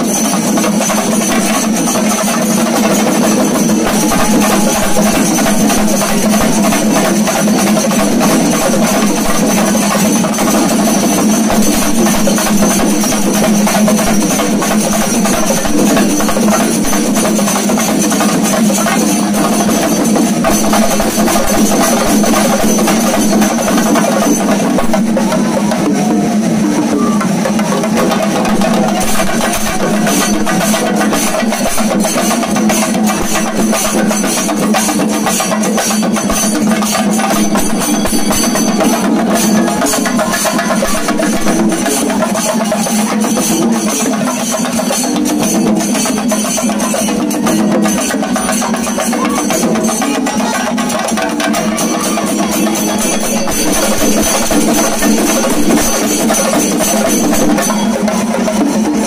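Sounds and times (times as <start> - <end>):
drums beaten fast with sticks: 0.0 - 59.0
hand cymbals clashing: 0.0 - 59.0.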